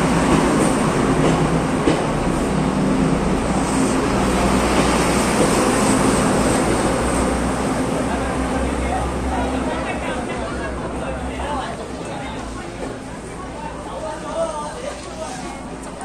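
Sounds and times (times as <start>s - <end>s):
diesel train rumbling past: 0.0s - 14.4s.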